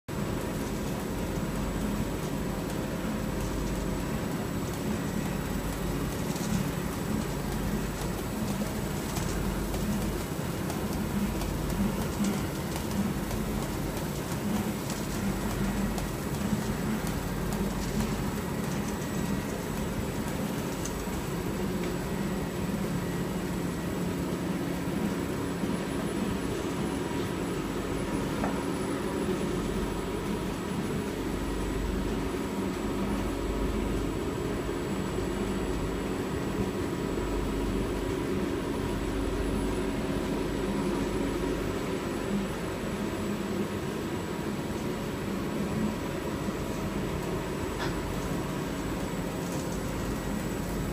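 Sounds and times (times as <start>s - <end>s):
embossing machine droning: 0.1s - 50.9s.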